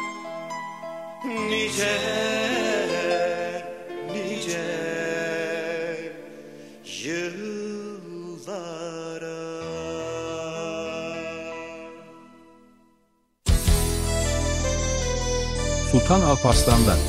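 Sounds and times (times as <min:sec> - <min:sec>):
slow music with held notes: 0:00.0 - 0:17.0.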